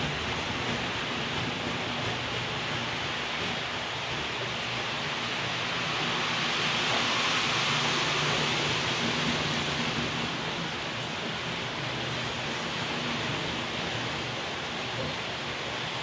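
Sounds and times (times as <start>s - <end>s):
model train wheels on rail: 0.0s - 16.0s.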